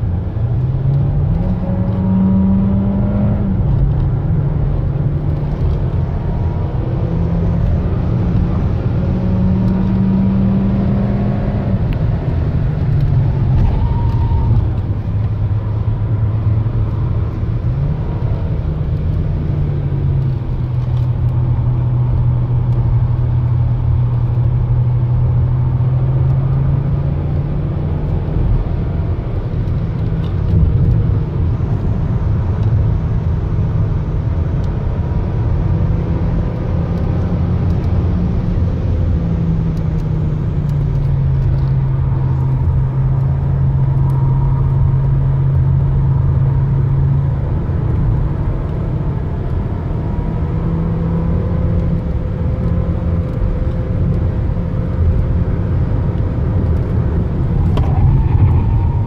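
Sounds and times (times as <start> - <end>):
car engine droning: 0.0 - 59.0
road and tyre noise: 0.0 - 59.0.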